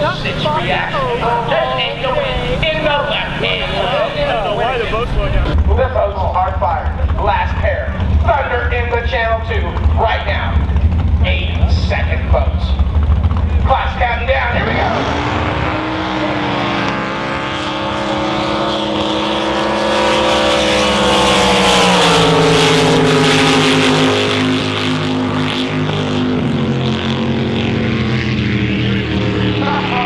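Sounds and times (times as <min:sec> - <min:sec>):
boat engines running loud: 0:00.0 - 0:30.0.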